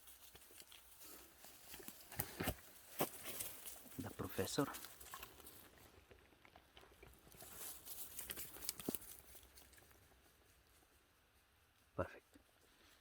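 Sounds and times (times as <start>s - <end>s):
dry leaves and twigs crackling underfoot: 0.0s - 11.4s.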